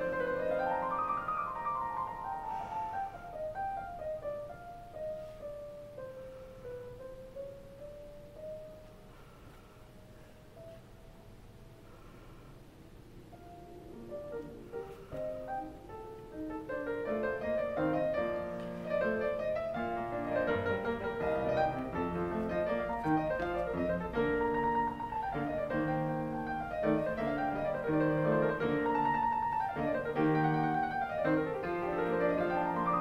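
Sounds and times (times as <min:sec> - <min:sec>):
classical piano piece: 0:00.0 - 0:33.0.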